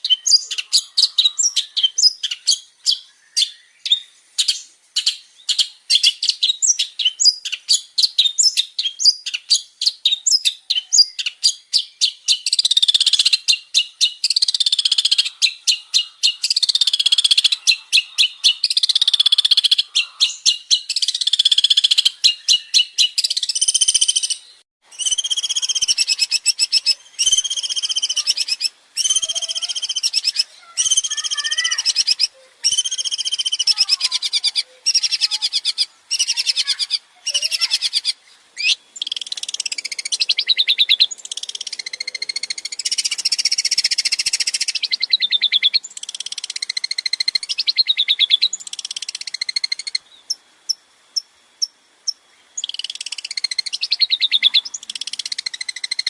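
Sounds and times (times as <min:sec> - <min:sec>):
shrike singing varied song: 0:00.0 - 0:56.0.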